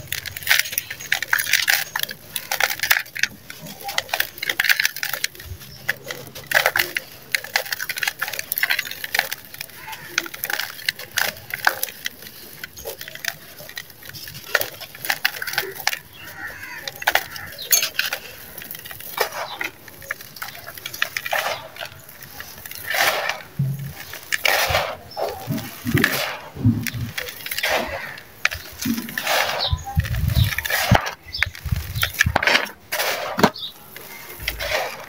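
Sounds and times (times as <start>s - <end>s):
block crumbling by hand: 0.0s - 35.0s.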